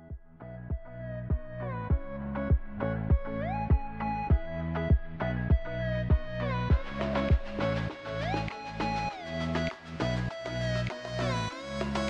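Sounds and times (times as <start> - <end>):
electronic music with thumping beat: 0.0 - 12.0.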